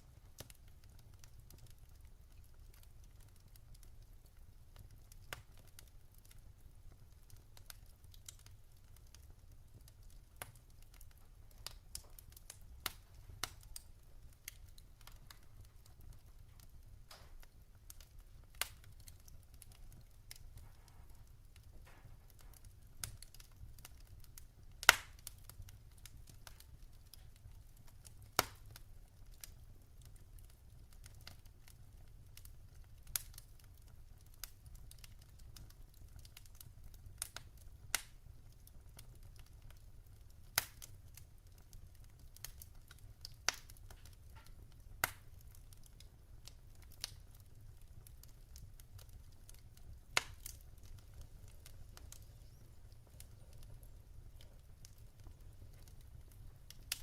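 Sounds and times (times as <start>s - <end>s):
burning logs popping: 0.0s - 57.0s
wood fire crackling: 0.0s - 57.0s.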